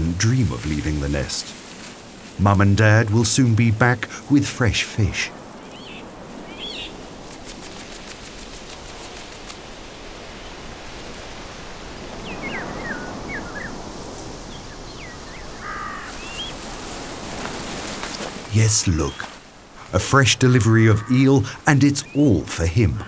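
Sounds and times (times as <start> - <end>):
steady outdoor hiss: 0.0 - 23.0.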